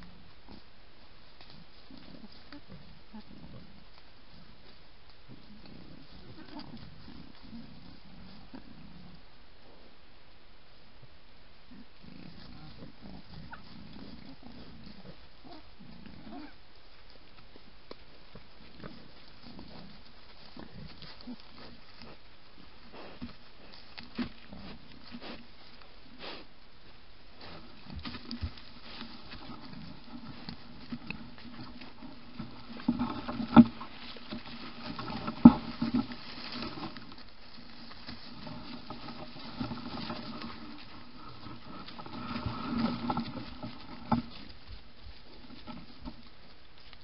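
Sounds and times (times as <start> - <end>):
rustling in dry leaves: 0.0 - 47.0
boars grunting: 1.4 - 10.0, 11.6 - 17.0, 18.2 - 26.4, 27.3 - 46.3.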